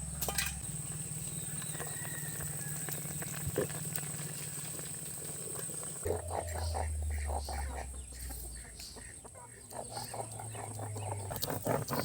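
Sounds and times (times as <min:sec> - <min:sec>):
low steady hum: 0:00.0 - 0:11.4
chickens clucking: 0:00.0 - 0:12.0.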